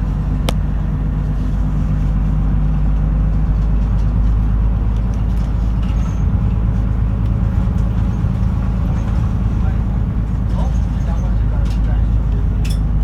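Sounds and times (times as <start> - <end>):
bus engine hum: 0.0 - 13.0
road noise: 0.0 - 13.0.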